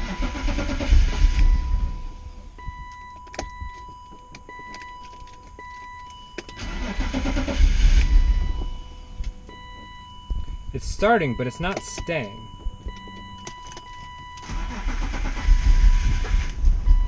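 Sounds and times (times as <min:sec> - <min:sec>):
car engine cranking and firing: 0:00.0 - 0:17.0.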